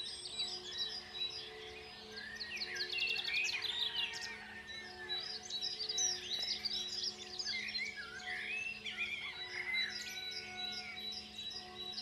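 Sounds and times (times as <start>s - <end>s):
songbirds singing and chirping: 0.0s - 12.0s.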